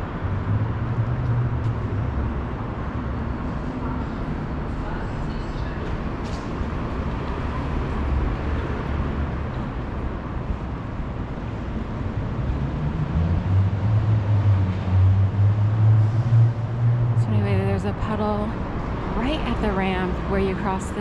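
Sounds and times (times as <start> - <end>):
street traffic din: 0.0 - 21.0
vehicle engine hum: 0.0 - 21.0.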